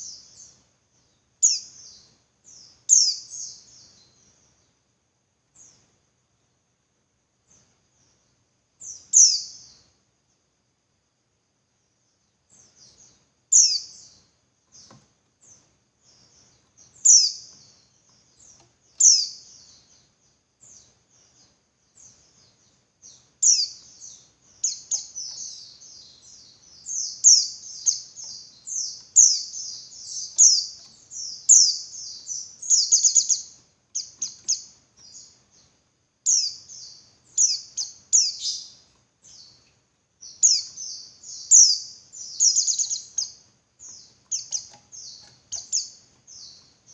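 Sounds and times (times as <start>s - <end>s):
bird chirping calls: 0.0s - 4.7s, 12.5s - 46.9s.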